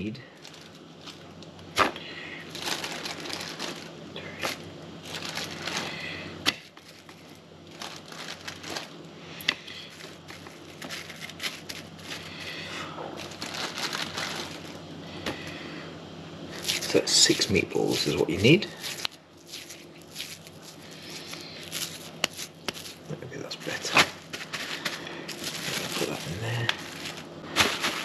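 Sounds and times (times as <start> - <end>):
cling film crinkling: 0.4 - 12.6, 13.2 - 14.8, 16.5 - 28.0.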